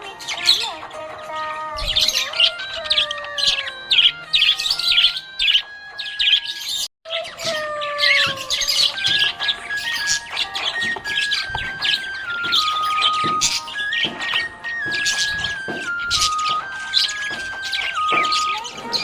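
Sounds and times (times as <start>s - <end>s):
background music of held notes: 0.0s - 6.9s, 7.5s - 19.0s
budgerigar chirping: 0.0s - 19.0s.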